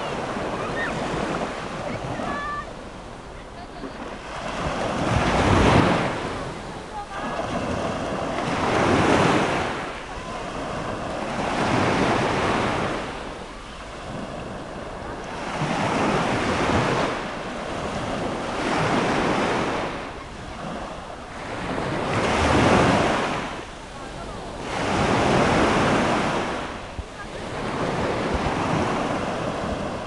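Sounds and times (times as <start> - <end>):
small waves breaking on sand: 0.0 - 30.0.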